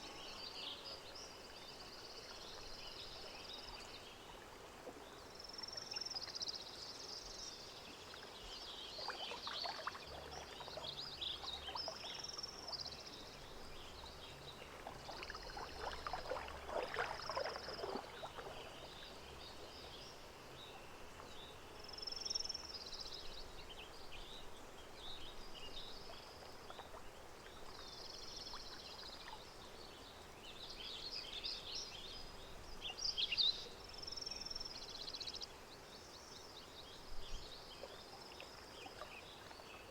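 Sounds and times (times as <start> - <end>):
water trickling and splashing: 0.2 - 33.2, 36.6 - 39.9.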